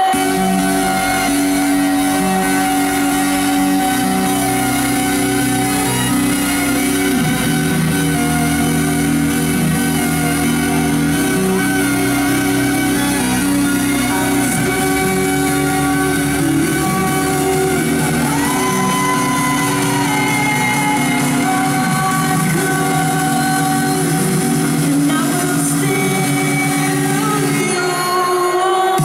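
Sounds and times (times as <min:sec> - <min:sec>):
trance music over sound system: 0:00.0 - 0:29.0.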